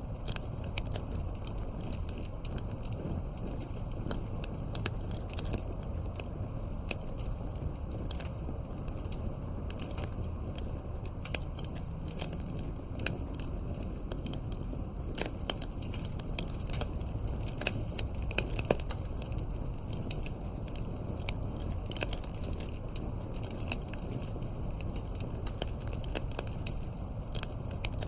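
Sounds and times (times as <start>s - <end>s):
low rumble of flame: 0.0s - 28.0s
wood crackling and popping: 0.0s - 28.0s.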